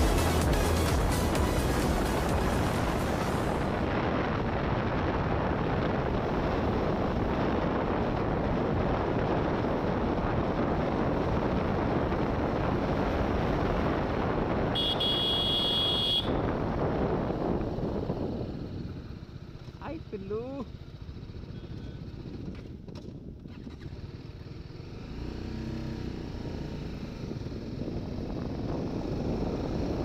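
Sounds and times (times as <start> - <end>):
motorcycle engine cruising: 0.0 - 30.0
wind rushing on microphone: 0.0 - 30.0.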